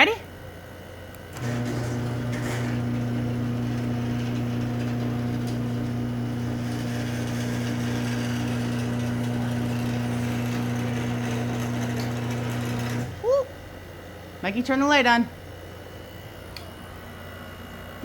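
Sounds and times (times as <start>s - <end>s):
garage door opener humming: 0.0s - 18.0s.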